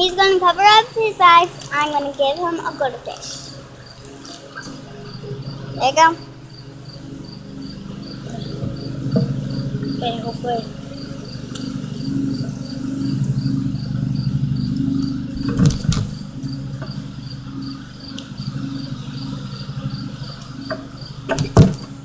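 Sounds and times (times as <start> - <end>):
crickets chirping: 0.0 - 22.0
low steady hum: 0.0 - 22.0.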